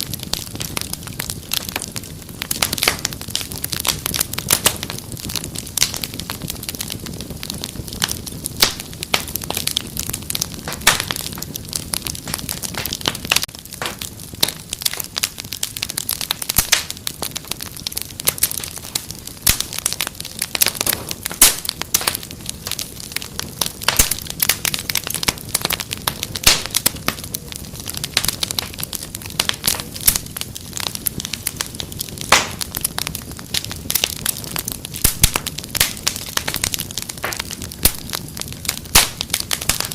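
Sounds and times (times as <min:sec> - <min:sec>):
low hiss of burning: 0:00.0 - 0:39.9
wood fire crackling: 0:00.0 - 0:39.9.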